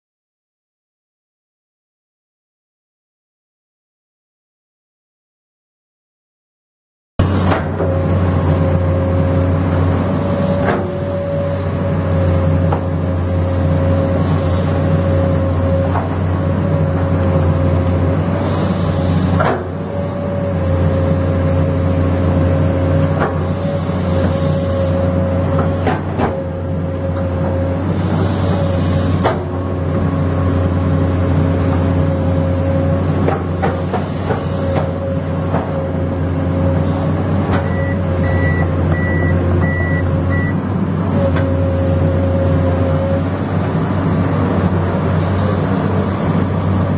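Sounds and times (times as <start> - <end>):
diesel engine running under load: 7.2 - 46.9
engine whine: 7.2 - 46.9.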